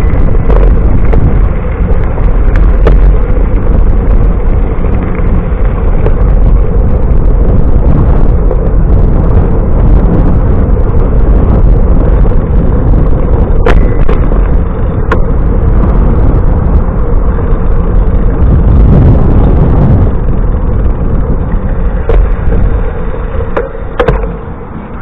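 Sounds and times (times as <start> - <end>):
bicycle clicks and knocks: 0.0 - 18.4, 20.1 - 24.5
wind buffeting microphone: 0.0 - 25.0.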